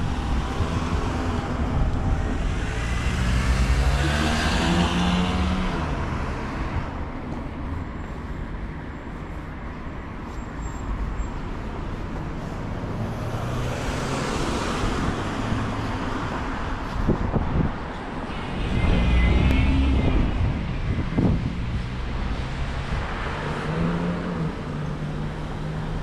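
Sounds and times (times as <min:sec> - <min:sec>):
vehicle passing: 0:00.0 - 0:09.4, 0:11.4 - 0:26.0
steady road noise: 0:00.0 - 0:26.0.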